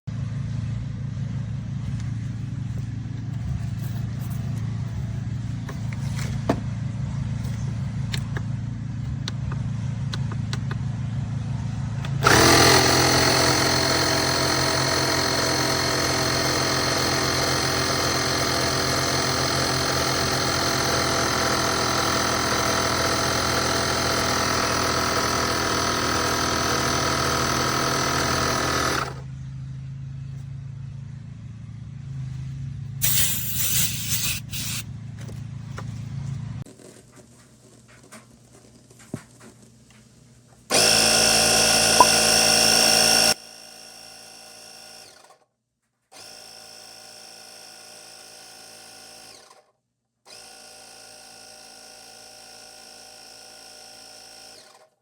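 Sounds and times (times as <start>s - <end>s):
air compressor running: 1.5s - 10.8s, 11.5s - 29.3s, 32.3s - 36.1s, 37.5s - 45.3s, 46.2s - 49.6s, 50.3s - 54.8s.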